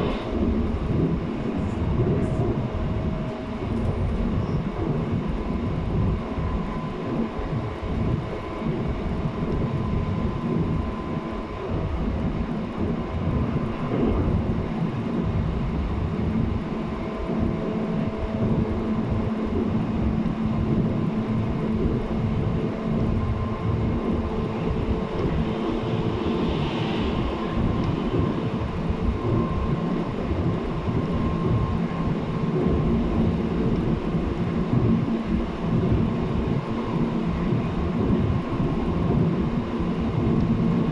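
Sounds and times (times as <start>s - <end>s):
low train hum: 0.0s - 40.9s
wheels rumbling on rail: 0.0s - 40.9s.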